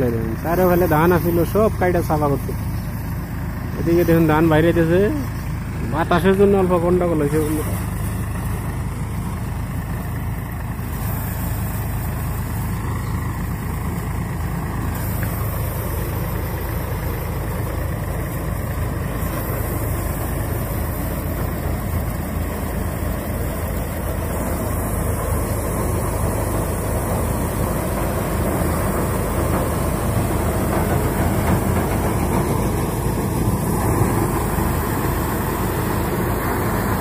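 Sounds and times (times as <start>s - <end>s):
thresher rushing noise: 0.0s - 37.0s
tractor engine running: 0.0s - 37.0s.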